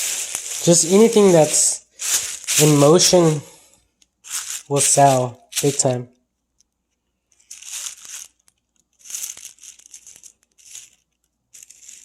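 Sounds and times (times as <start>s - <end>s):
rustling crinkling noise: 0.0s - 12.0s.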